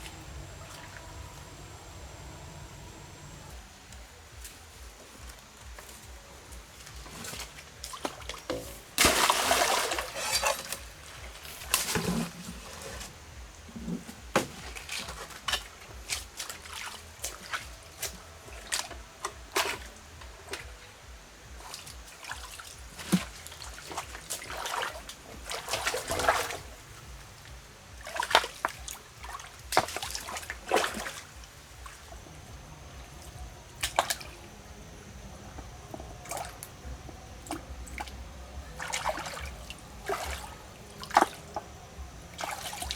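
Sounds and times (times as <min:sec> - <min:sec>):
water splashing and dribbling: 0:00.0 - 0:42.9.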